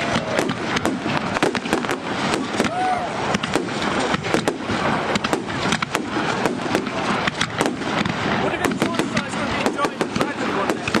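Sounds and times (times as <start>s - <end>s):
crackling hiss: 0.0s - 11.0s
fireworks bangs and cracks: 0.0s - 11.0s.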